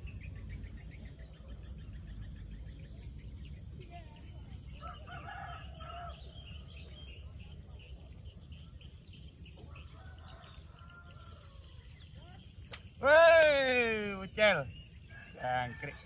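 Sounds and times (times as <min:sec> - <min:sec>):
bird chirps: 0:00.0 - 0:16.0
insect chorus drone: 0:00.0 - 0:16.0.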